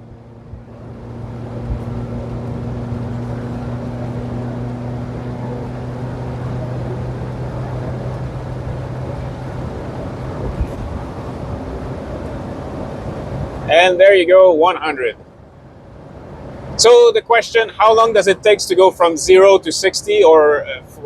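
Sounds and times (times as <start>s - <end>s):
engine drone: 0.0s - 21.0s
road and wind noise: 0.0s - 21.0s.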